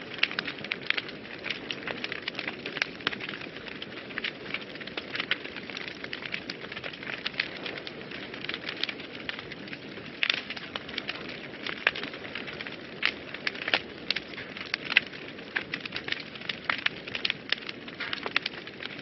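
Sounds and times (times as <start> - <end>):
fire crackles and pops: 0.0 - 19.0
low rush of flames: 0.0 - 19.0.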